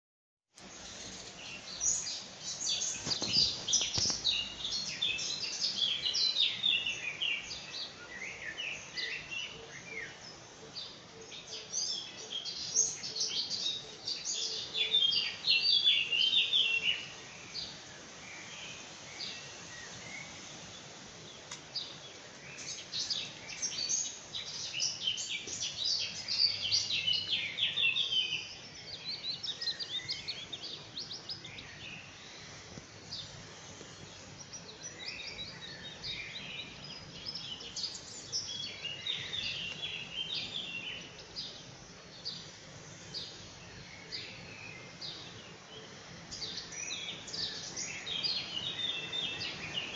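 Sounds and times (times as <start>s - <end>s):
faint background noise: 0.6s - 49.9s
songbirds chirping and trilling: 0.6s - 49.9s.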